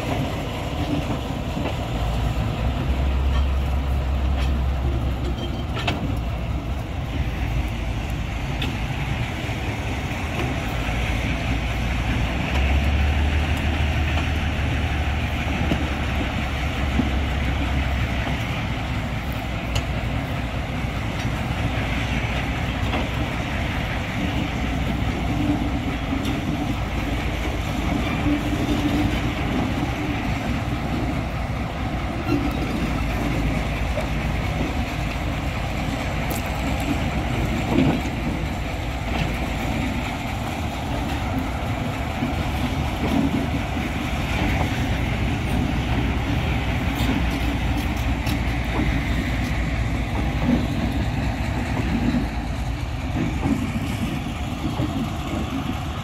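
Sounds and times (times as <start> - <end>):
diesel locomotive engine running: 0.0 - 56.0.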